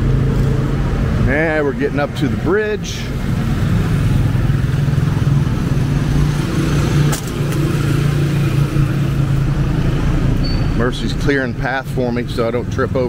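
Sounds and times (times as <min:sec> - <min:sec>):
motor vehicle engine running: 0:00.0 - 0:13.0.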